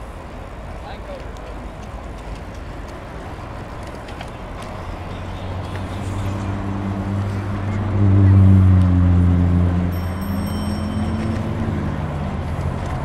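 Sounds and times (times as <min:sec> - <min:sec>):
bicycle rolling noise: 0:00.0 - 0:13.0
vehicle engine hum: 0:00.0 - 0:13.0
wind: 0:00.0 - 0:13.0.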